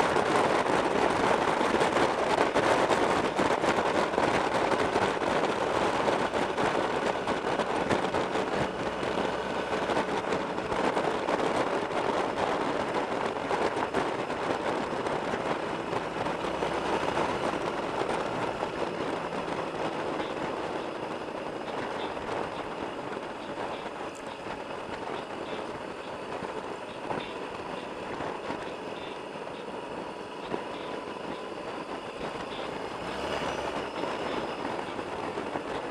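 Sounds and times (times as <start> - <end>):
motorcycle engine: 0.0 - 35.9
road noise: 0.0 - 35.9
wind buffeting microphone: 0.0 - 35.9.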